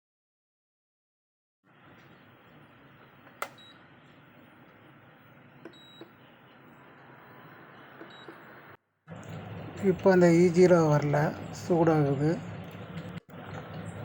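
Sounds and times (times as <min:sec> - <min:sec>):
stove cooling fan whirring: 0:01.7 - 0:14.0.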